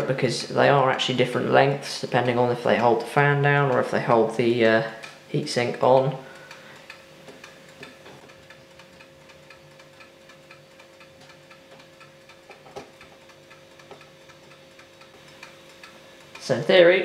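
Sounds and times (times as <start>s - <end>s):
faint ticking: 0.0s - 17.0s
steady low hum: 0.0s - 17.0s.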